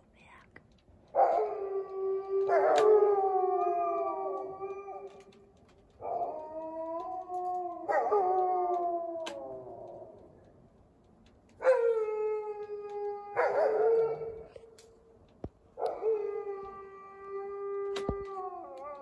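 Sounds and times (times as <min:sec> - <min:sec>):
wolves howling: 0:01.1 - 0:10.4, 0:11.6 - 0:15.0, 0:15.7 - 0:19.0.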